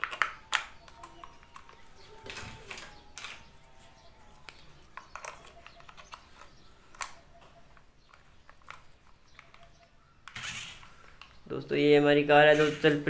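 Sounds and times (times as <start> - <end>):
plastic clicks and rattles: 0.0 - 3.5, 4.4 - 11.4.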